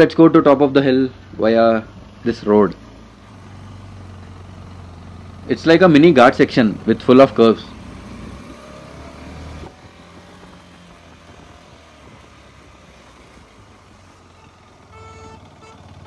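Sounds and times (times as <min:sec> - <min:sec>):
motorcycle engine running: 0:00.3 - 0:16.0.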